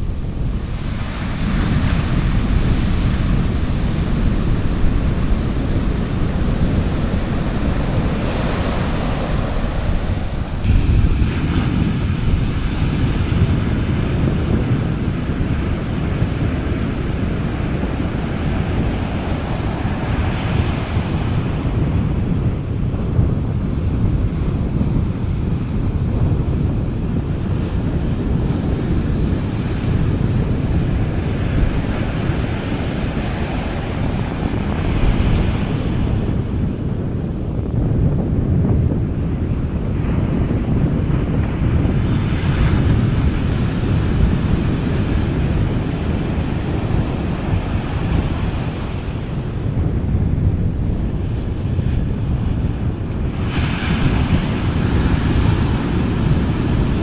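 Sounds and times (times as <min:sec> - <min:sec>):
sea waves washing onto beach: 0:00.0 - 0:26.0, 0:26.6 - 0:37.1, 0:39.1 - 0:57.0
wind rumbling on microphone: 0:00.0 - 0:57.0.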